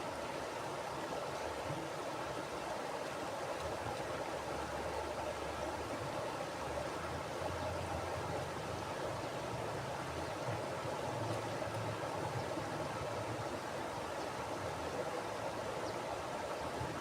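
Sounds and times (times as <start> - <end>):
river flowing over rocks: 0.0 - 17.0.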